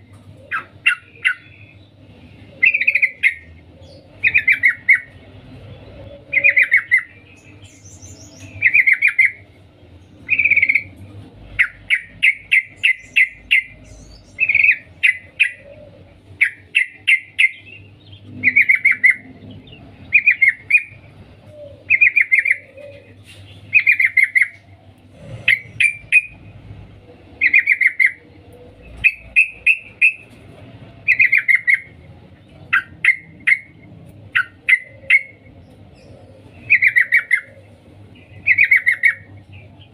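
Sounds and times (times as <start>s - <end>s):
bird chattering calls: 0.4s - 1.8s, 2.6s - 5.2s, 6.1s - 9.5s, 10.2s - 11.0s, 11.6s - 26.5s, 27.4s - 30.4s, 31.0s - 39.9s.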